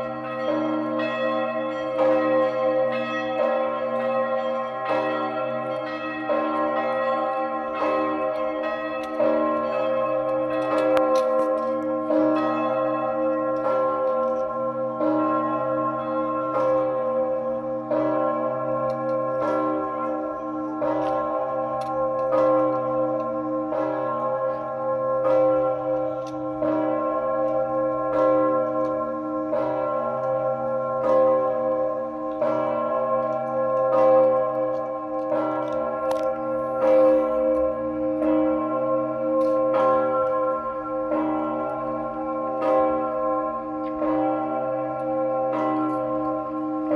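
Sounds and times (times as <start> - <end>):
church bell tolling: 0.0 - 46.9.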